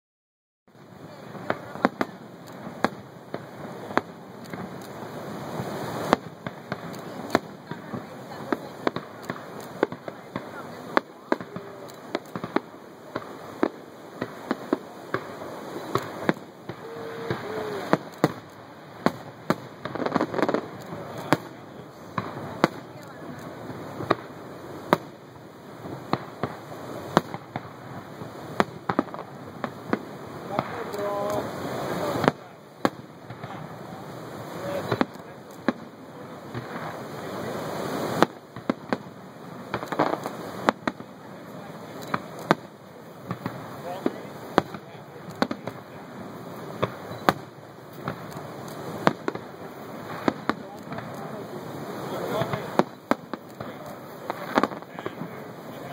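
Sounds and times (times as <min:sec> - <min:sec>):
fireworks bangs: 0:00.7 - 0:55.9
steady background noise: 0:00.7 - 0:55.9.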